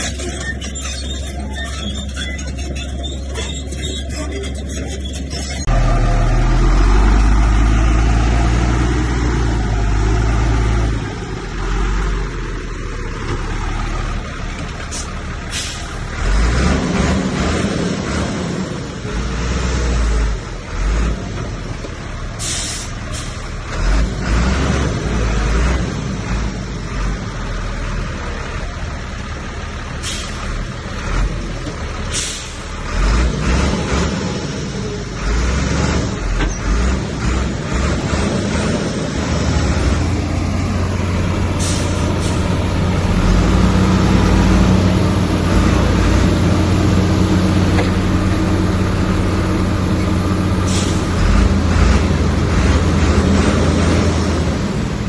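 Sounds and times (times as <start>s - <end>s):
heavy diesel machinery rumbling: 0.0s - 55.0s.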